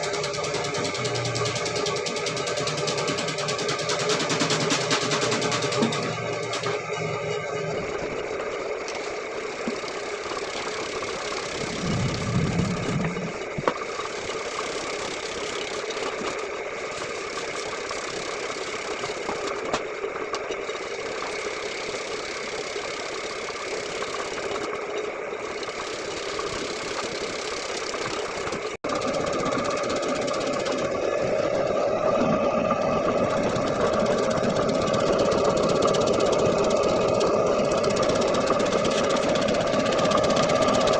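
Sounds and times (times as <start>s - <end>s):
vegetable slicing machine running: 0.0s - 40.9s.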